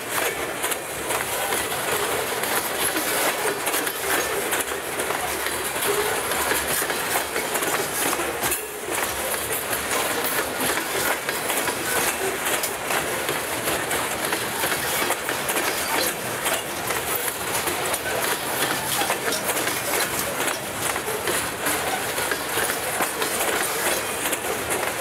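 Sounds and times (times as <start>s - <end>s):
train wheels rattling on rail: 0.0s - 25.0s
wheels clicking over rail joints: 0.0s - 25.0s.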